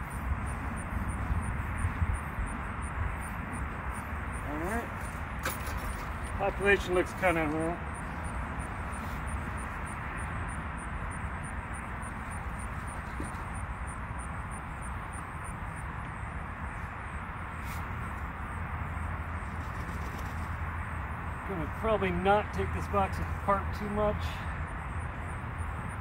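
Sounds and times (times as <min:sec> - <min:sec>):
outdoor rumble and hiss: 0:00.0 - 0:26.0.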